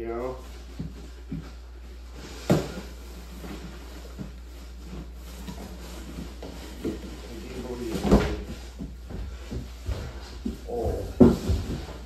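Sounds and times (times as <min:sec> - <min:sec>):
steady low hum: 0:00.0 - 0:12.0
cardboard packing being handled: 0:00.2 - 0:12.0.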